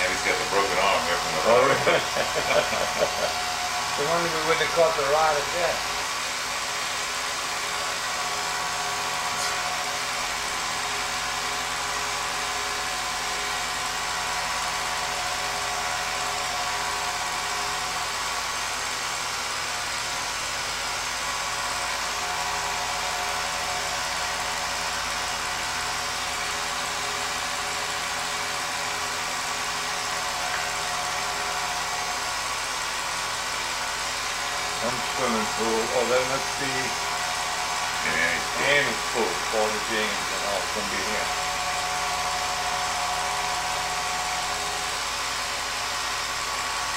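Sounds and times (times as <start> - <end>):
film projector motor whirring: 0.0 - 46.9.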